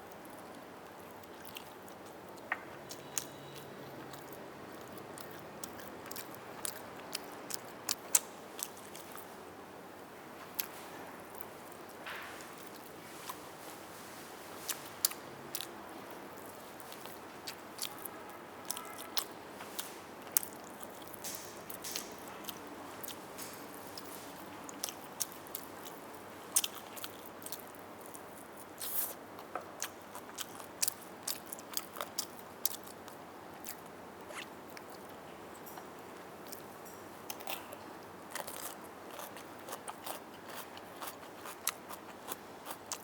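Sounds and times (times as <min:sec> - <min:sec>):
chewing and crunching chicken: 0:00.0 - 0:09.4, 0:14.6 - 0:43.0.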